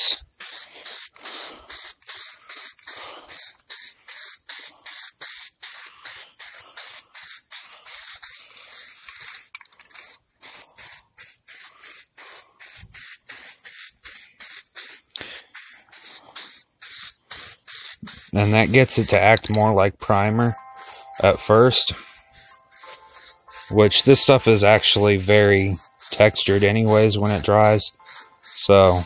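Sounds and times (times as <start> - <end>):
spray can hissing bursts: 0.0 - 29.0.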